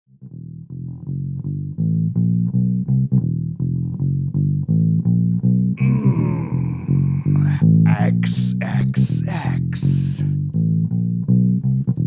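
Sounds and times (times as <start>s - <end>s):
plucked bass riff: 0.1s - 12.0s.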